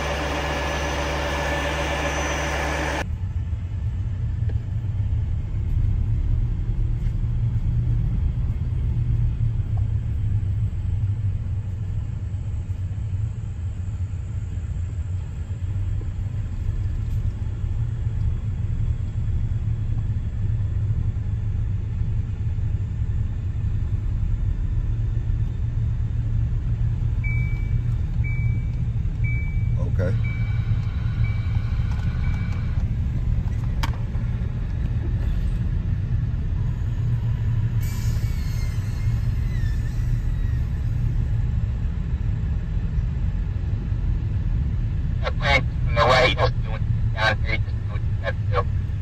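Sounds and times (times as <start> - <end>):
truck engine and road rumble: 0.0 - 49.0.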